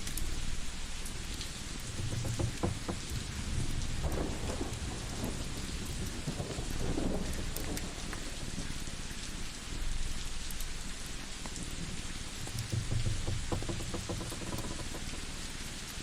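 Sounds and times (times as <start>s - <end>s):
rain-like hiss: 0.0s - 16.0s.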